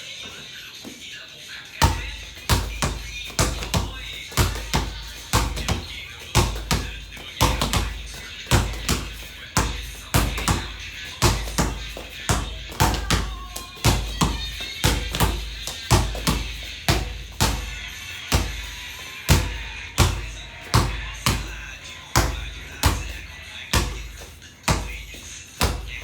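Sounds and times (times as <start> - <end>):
background music: 0.0 - 26.0
basketball bouncing on hard floor: 1.8 - 26.0.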